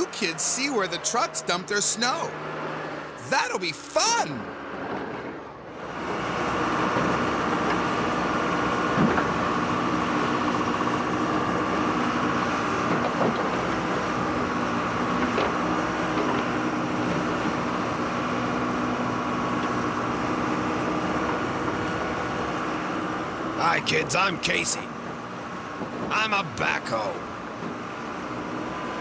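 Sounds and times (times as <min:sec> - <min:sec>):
heavy engine running: 0:00.0 - 0:29.0.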